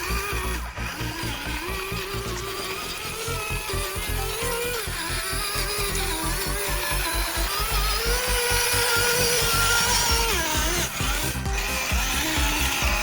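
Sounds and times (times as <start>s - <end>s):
background music: 0.0s - 13.0s
small electric motor whining: 0.0s - 13.0s.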